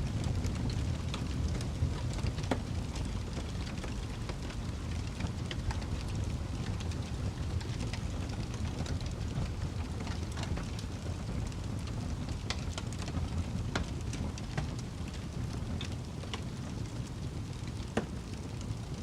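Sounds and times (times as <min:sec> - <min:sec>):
rumble of flames: 0:00.0 - 0:19.0
burning wood popping: 0:00.1 - 0:19.0.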